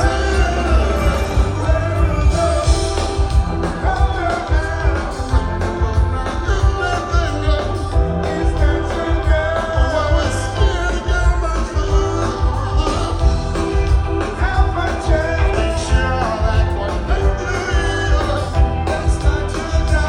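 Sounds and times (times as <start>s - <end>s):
lead singer singing: 0.0s - 20.0s
live rock band playing: 0.0s - 20.0s.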